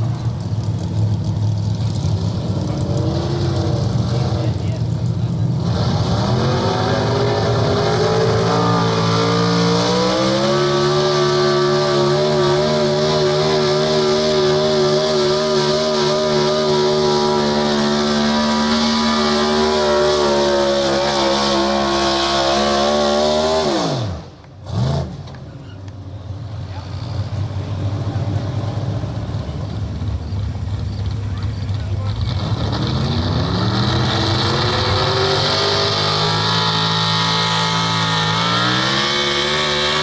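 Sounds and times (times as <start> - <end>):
truck engine at full throttle: 0.0 - 40.0.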